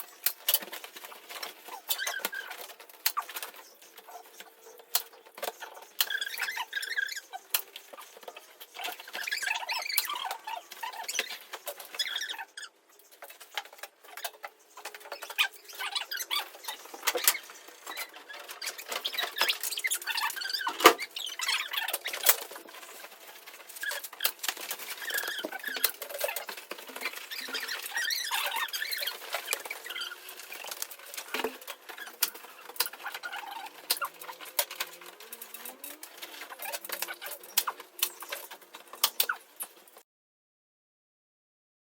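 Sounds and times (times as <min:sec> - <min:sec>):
rustling and scratching: 0:00.0 - 0:40.0.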